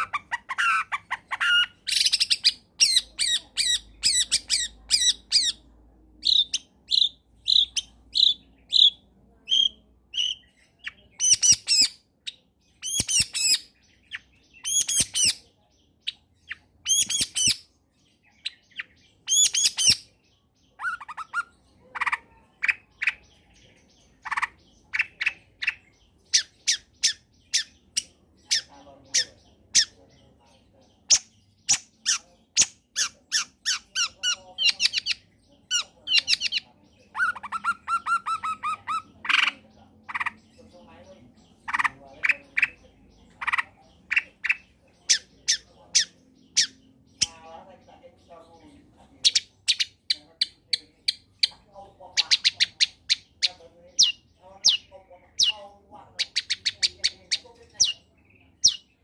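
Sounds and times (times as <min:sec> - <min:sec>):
bird harsh calls: 0:00.0 - 0:47.5.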